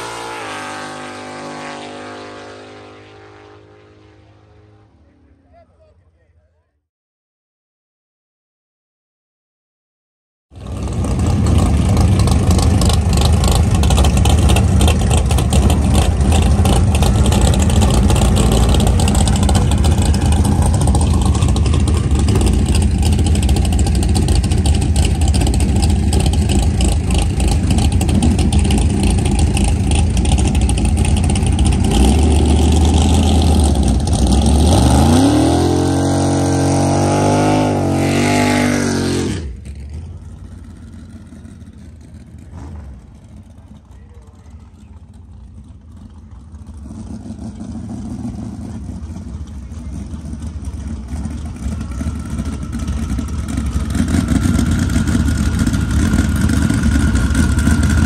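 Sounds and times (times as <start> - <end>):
race car engine revving: 0.0 - 5.4, 10.6 - 58.0.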